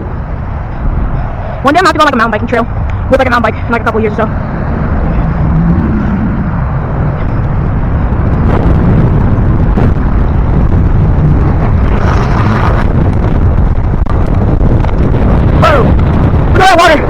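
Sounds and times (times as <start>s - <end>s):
bicycle riding noise: 0.0s - 17.0s
wind rumbling on microphone: 0.0s - 17.0s.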